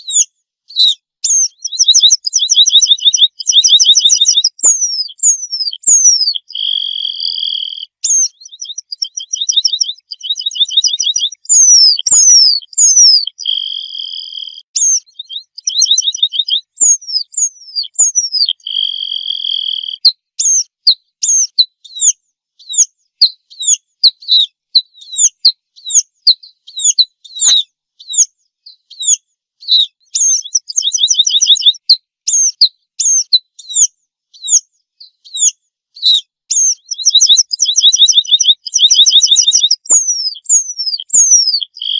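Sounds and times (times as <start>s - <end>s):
bird singing with trills: 0.0s - 41.9s.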